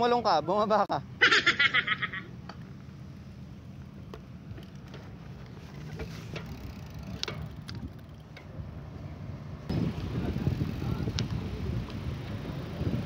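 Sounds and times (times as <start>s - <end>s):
low outdoor rumble: 1.0s - 13.0s.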